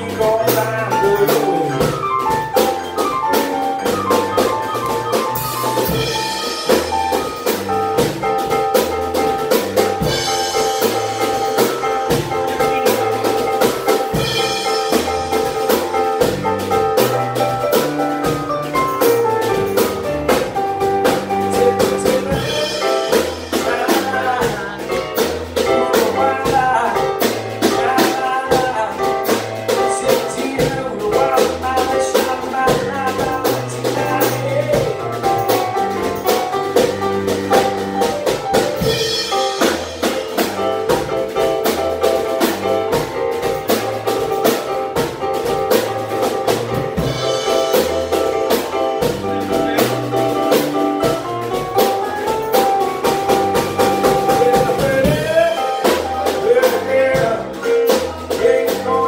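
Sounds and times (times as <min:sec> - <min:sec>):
drum kit beat: 0:00.0 - 0:59.0
rhythm and blues piano: 0:00.0 - 0:59.0.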